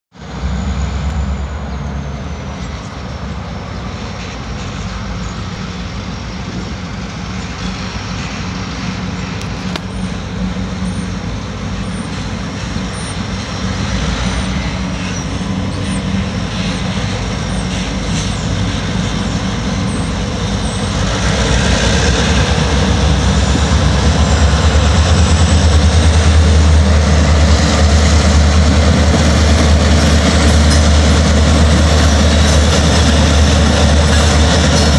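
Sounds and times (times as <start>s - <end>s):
diesel locomotive engine rumble: 0.1s - 34.9s.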